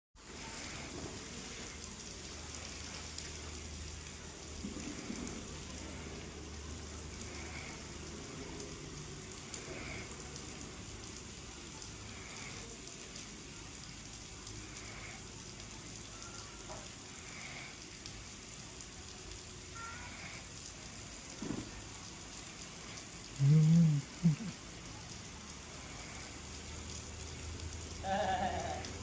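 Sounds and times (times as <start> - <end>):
steady rain falling: 0.2 - 29.0.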